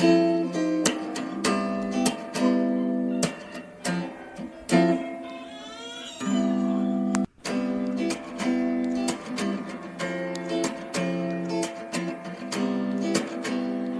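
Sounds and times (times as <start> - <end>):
acoustic guitar music: 0.0 - 13.9.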